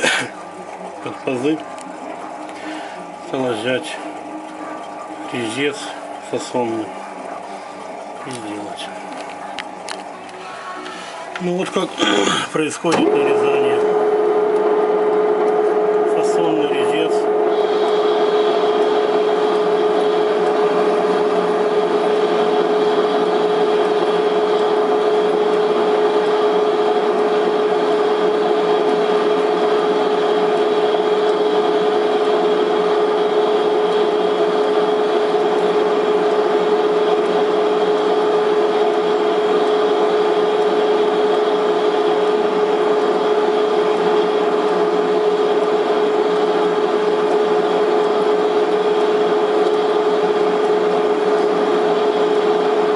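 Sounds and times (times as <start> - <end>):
metal lathe humming: 0.0 - 52.9.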